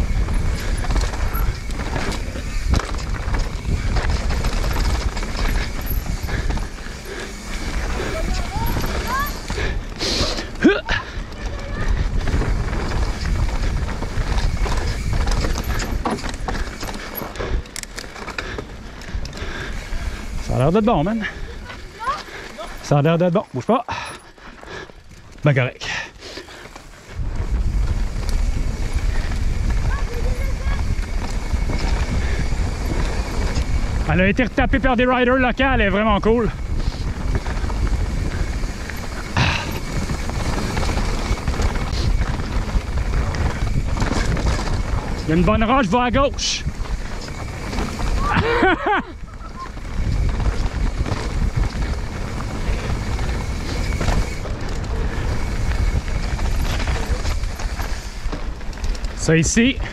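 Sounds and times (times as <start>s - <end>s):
wind rumble on microphone: 0.0s - 17.9s, 26.8s - 59.9s
bike chain and parts rattling: 0.0s - 59.9s
bike tyres on dirt: 0.0s - 59.9s.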